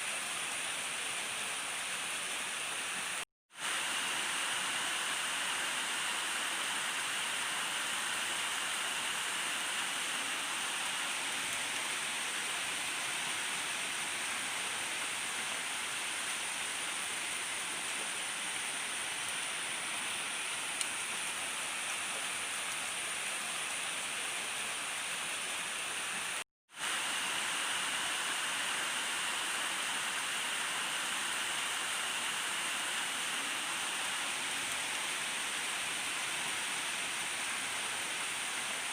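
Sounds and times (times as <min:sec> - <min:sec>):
heavy rain falling: 0:00.4 - 0:38.9.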